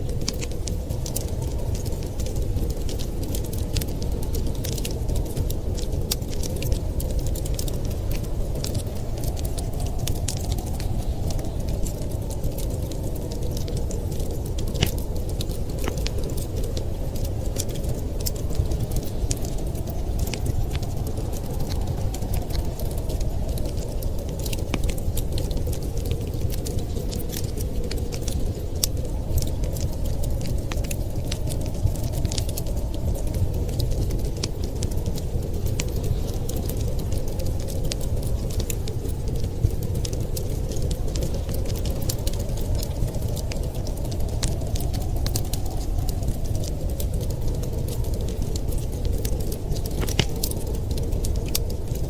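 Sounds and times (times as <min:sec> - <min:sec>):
blizzard wind rushing: 0:00.0 - 0:52.0
wood fire crackling: 0:00.0 - 0:52.0.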